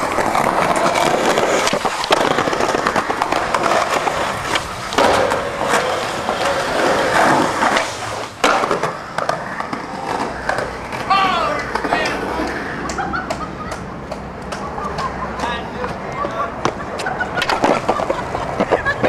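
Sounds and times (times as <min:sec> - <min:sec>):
skateboard clacking on ground: 0:00.0 - 0:19.0
skateboard wheels rolling on concrete: 0:00.0 - 0:19.0.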